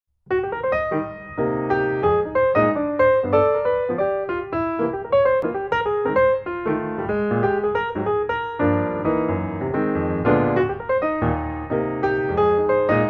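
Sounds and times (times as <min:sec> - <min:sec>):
piano music: 0:00.3 - 0:13.0.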